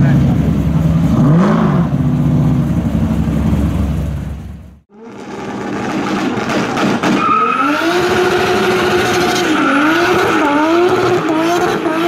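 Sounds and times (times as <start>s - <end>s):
car engine revving high: 0.2s - 3.7s, 4.9s - 12.0s.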